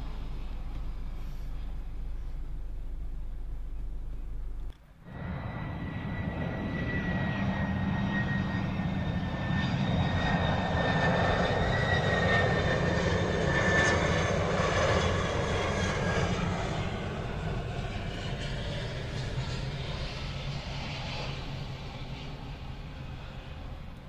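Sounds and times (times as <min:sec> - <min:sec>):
jet engines rumble and whine: 0:00.0 - 0:24.0.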